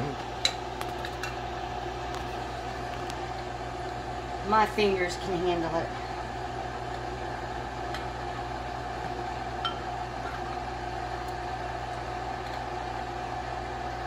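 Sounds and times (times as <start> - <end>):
kitchen appliance humming: 0.0 - 14.0.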